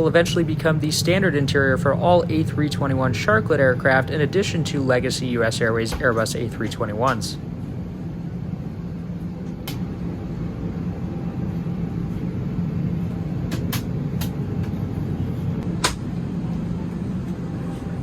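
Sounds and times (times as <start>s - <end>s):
aircraft cabin ventilation hum: 0.0s - 18.0s.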